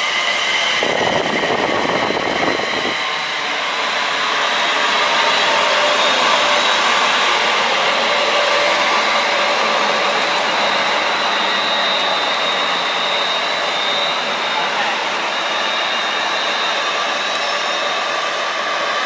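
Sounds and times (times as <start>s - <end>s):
electric train passing at speed: 0.0s - 19.0s
thin high whine: 0.0s - 19.0s.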